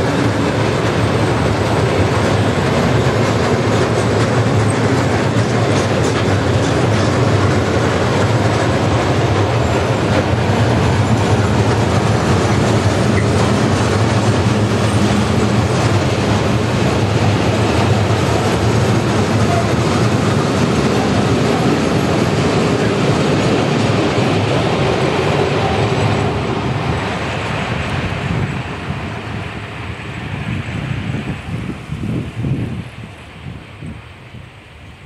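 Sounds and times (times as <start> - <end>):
freight wagons rolling on rails: 0.0 - 34.0.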